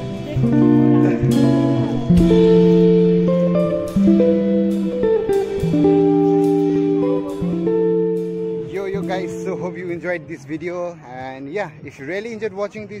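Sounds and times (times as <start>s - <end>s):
guitar instrumental music: 0.0s - 13.0s.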